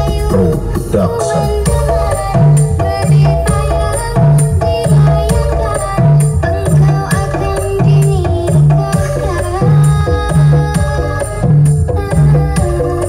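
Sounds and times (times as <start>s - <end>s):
loud music with deep drum beat: 0.0s - 13.0s.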